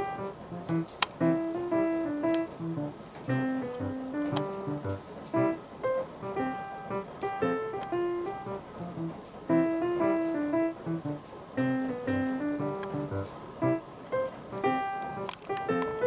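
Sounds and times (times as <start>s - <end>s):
piano tune: 0.0s - 16.0s.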